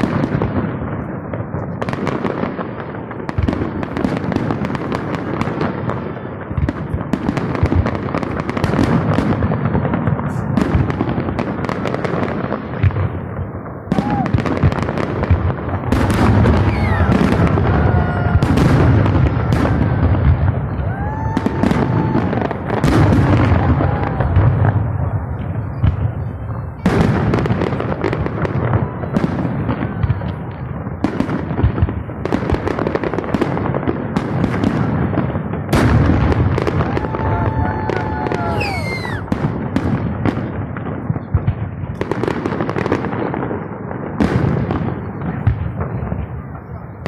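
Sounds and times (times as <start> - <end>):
fireworks bangs and crackling: 0.0 - 47.0.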